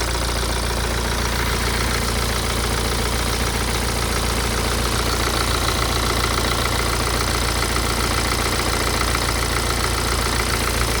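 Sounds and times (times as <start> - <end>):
diesel engine idling with rattle: 0.0 - 11.0.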